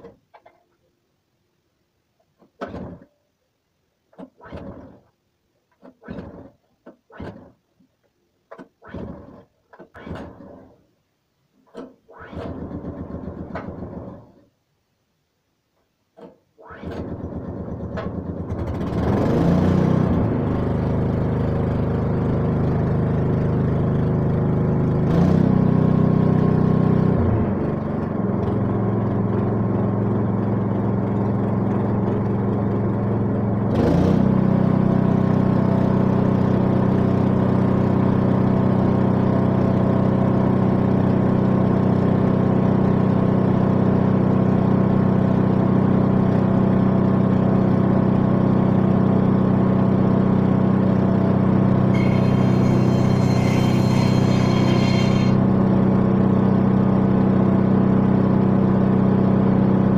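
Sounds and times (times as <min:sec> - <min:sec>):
small petrol engine running: 0:04.4 - 0:05.1, 0:08.8 - 0:10.8, 0:12.1 - 0:14.4, 0:16.7 - 0:59.9.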